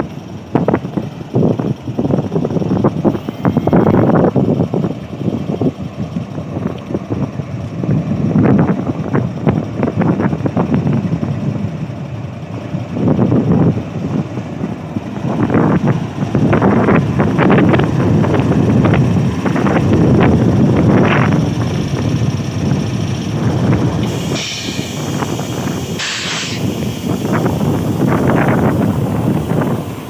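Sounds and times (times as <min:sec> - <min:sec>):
locomotive engine idling: 0:00.0 - 0:30.0
wind buffeting microphone: 0:00.0 - 0:30.0.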